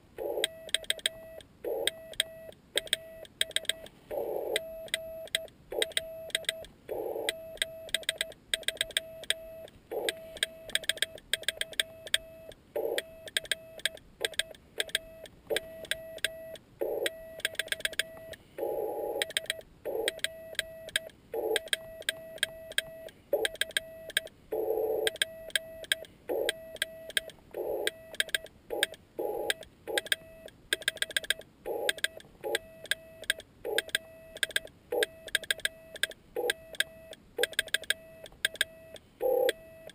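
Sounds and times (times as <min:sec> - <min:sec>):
sidetone beeps: 0:00.2 - 0:11.2, 0:11.8 - 0:30.5, 0:31.7 - 0:39.9.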